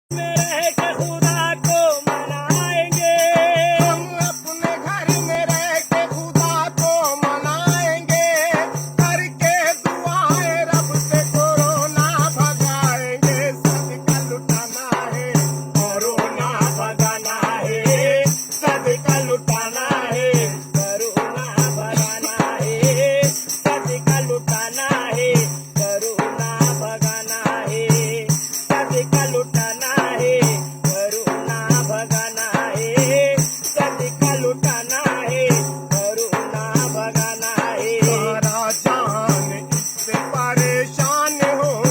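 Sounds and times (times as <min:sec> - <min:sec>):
shaker-like rattle: 0:00.1 - 0:41.9.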